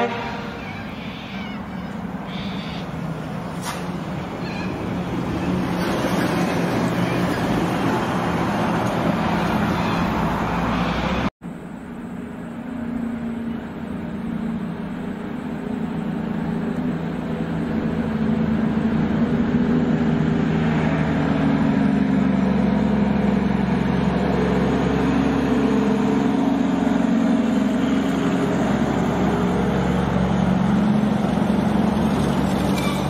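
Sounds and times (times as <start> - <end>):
diesel truck engine approaching: 0.0 - 33.0.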